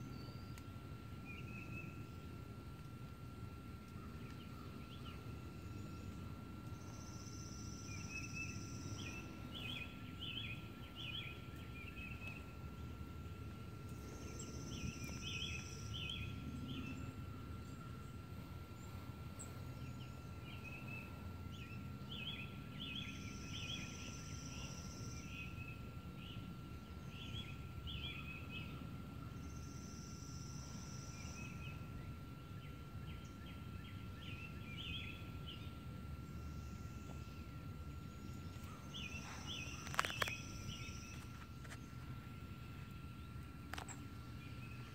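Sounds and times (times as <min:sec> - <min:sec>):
low background rumble: 0:00.0 - 0:44.9
songbirds chirping: 0:00.0 - 0:44.9.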